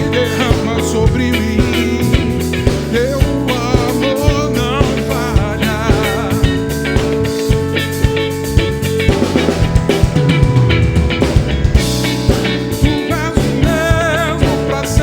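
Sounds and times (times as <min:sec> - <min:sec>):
band playing soul groove: 0:00.0 - 0:15.0
bending lead guitar line: 0:00.0 - 0:15.0.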